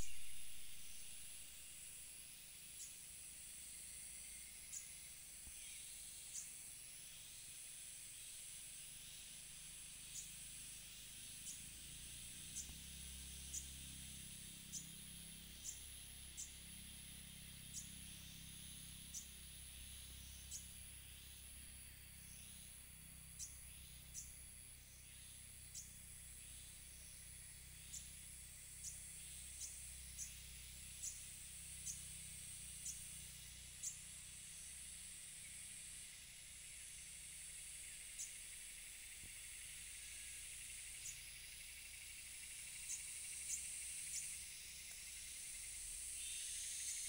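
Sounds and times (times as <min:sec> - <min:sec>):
high-pitched insect drone: 0:00.0 - 0:47.0.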